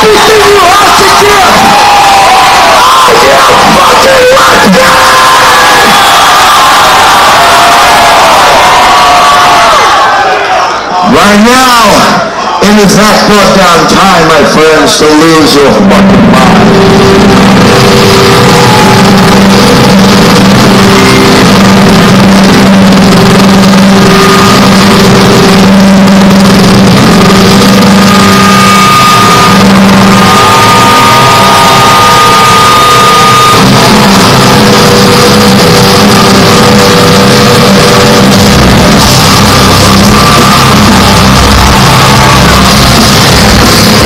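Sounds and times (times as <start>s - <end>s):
heavy bass and drums: 0.0s - 9.5s, 15.6s - 44.0s
distorted metal band playing live: 0.0s - 9.7s, 12.8s - 44.0s.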